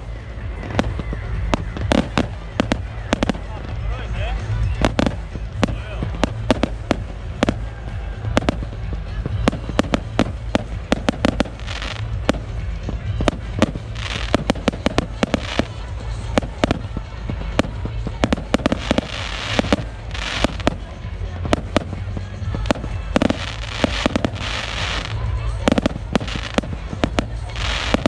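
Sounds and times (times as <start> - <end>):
fireworks bangs: 0.0 - 28.0
fireworks hissing: 0.0 - 28.0.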